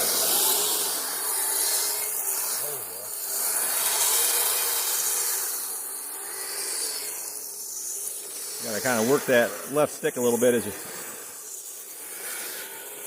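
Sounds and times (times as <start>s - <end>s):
toy snow vehicles hissing: 0.0s - 13.0s.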